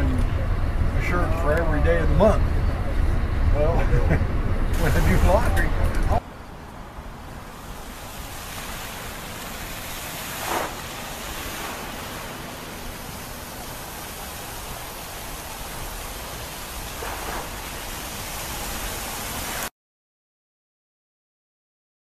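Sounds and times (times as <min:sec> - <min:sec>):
road and wind noise from vehicle: 0:00.0 - 0:19.7.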